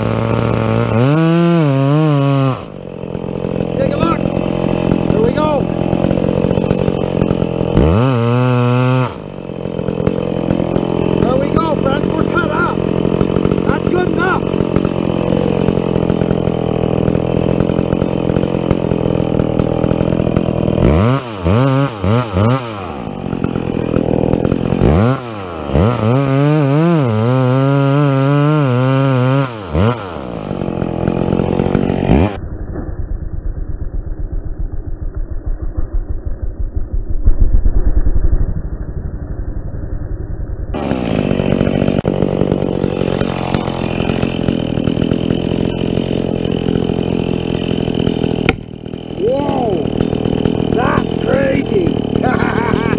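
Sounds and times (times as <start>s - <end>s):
chainsaw engine revving: 0.0s - 32.4s, 40.8s - 52.9s.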